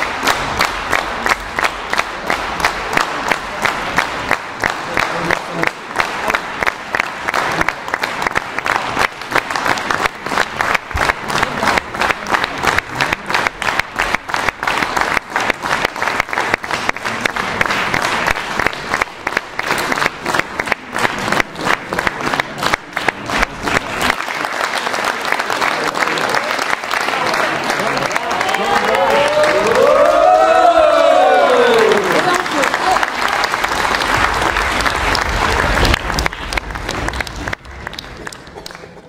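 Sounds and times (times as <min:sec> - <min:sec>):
cast clapping along: 0:00.0 - 0:30.3, 0:31.3 - 0:39.0
audience applauding: 0:00.0 - 0:39.0.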